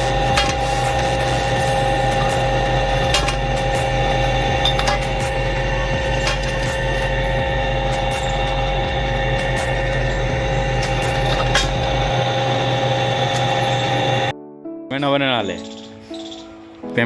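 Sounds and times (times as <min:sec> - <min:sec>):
drilling machine engine whining: 0:00.0 - 0:14.3.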